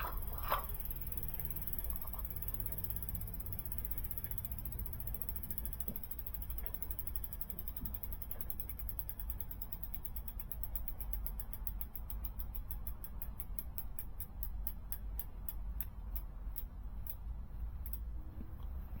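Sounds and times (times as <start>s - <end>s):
freewheel clicking: 0.0s - 18.2s.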